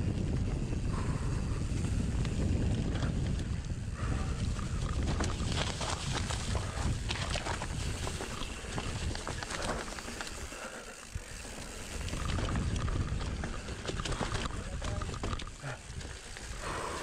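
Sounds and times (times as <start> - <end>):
bike rattling over rough trail: 0.0 - 17.0
wind buffeting microphone: 0.0 - 17.0.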